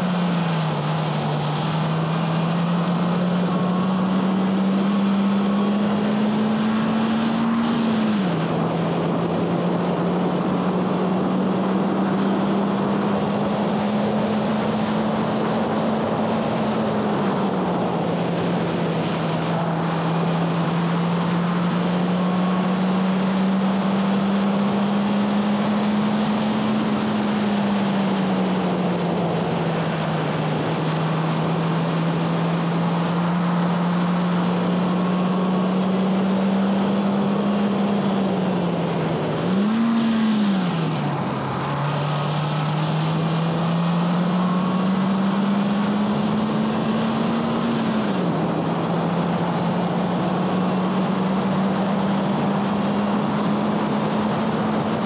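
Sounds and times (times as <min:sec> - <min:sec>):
car engine running hard: 0:00.0 - 0:55.0
wind and tyre noise: 0:00.0 - 0:55.0.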